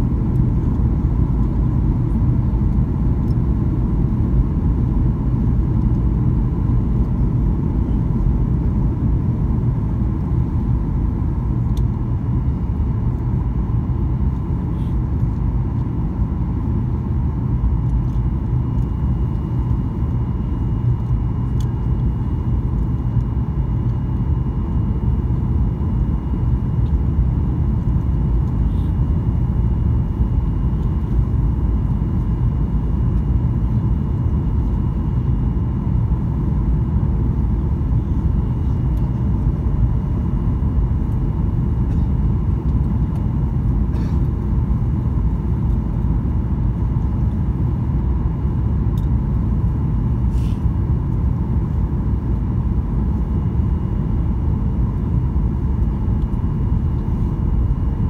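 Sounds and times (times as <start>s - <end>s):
airplane cabin rumble: 0.0s - 58.0s
faint steady whine: 0.0s - 58.0s.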